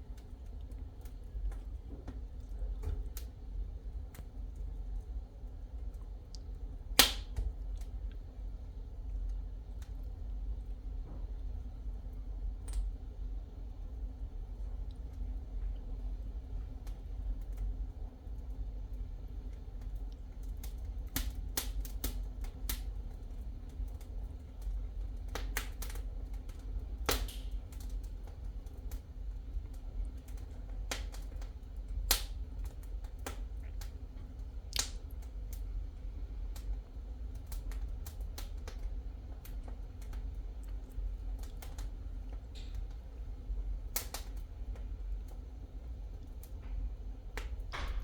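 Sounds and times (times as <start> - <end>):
low steady rumble: 0.0 - 48.0
wood fire crackling: 0.0 - 48.0.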